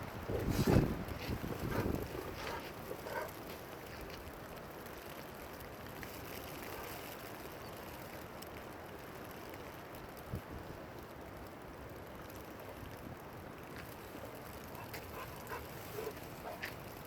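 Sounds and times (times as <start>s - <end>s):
rain: 0.0s - 17.0s
wind: 0.0s - 17.0s
faint ticks: 0.2s - 17.0s.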